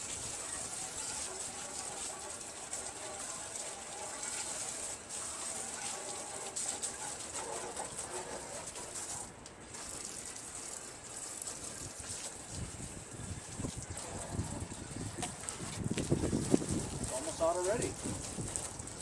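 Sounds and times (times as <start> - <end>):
fire extinguisher spraying water: 0.0 - 19.0.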